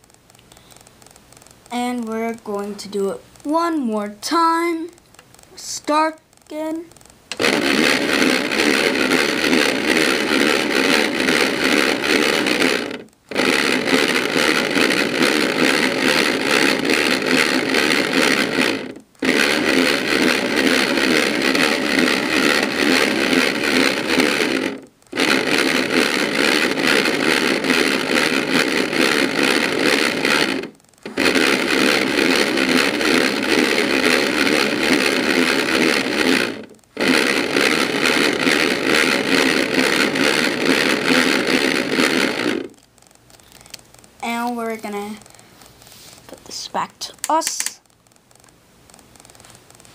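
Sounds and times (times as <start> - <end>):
toy washing machine whirring: 4.3 - 45.5.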